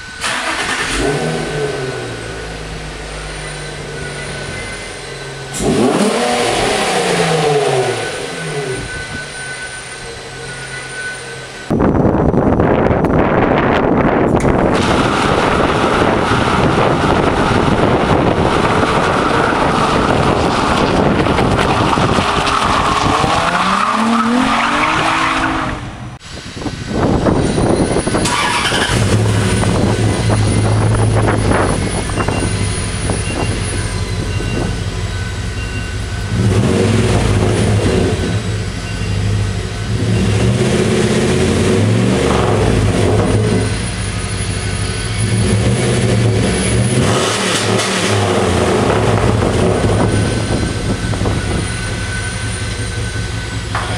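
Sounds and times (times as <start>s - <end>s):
truck exhaust idling: 0.0s - 25.2s, 25.8s - 40.6s, 41.2s - 53.9s
car engine revving high: 0.2s - 11.6s, 14.4s - 34.8s, 36.3s - 38.7s, 39.8s - 53.9s.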